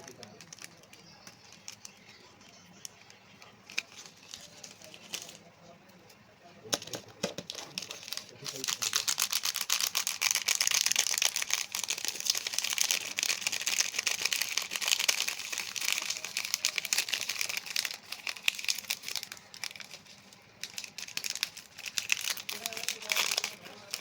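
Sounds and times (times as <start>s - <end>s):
cookie wrapper crinkling: 0.0s - 5.5s, 6.7s - 24.0s.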